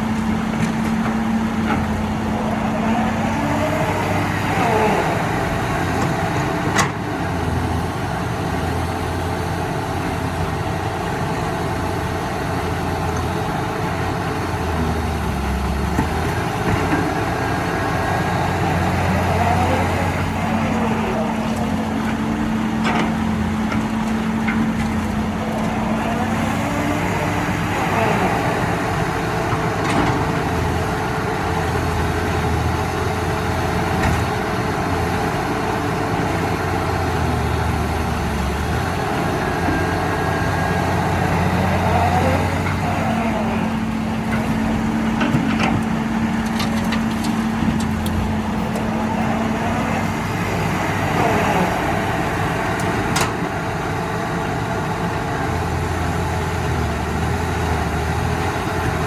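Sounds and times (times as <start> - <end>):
heavy machinery diesel engines: 0.0 - 59.0.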